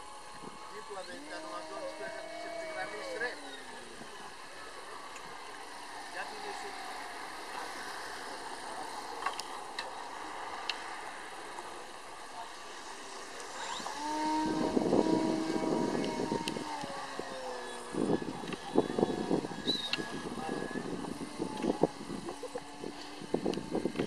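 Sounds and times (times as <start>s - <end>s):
model airplane motor droning: 0.0s - 24.0s.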